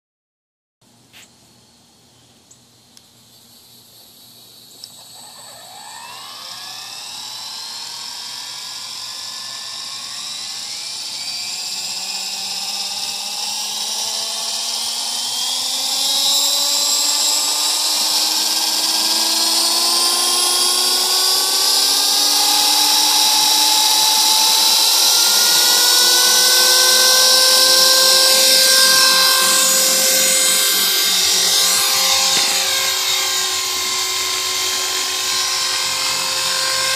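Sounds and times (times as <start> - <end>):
rc helicopter motor and rotor whine: 3.3 - 36.9.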